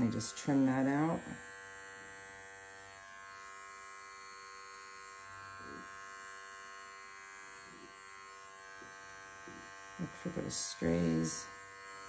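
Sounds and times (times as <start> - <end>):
electric clipper buzzing: 0.0 - 12.0.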